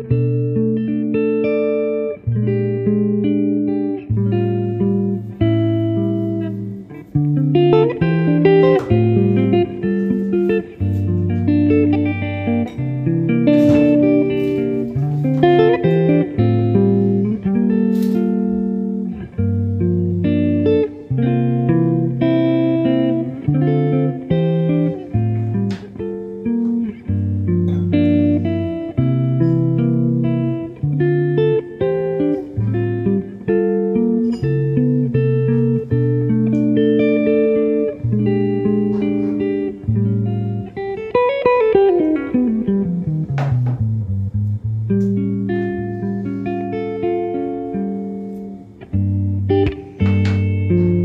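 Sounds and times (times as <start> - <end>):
plucked guitar music: 0.0 - 51.0.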